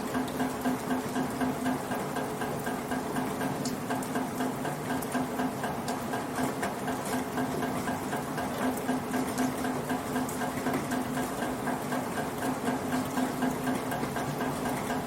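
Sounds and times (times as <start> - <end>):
rain pattering: 0.0 - 15.0
water dripping in a rain gutter: 0.0 - 15.0.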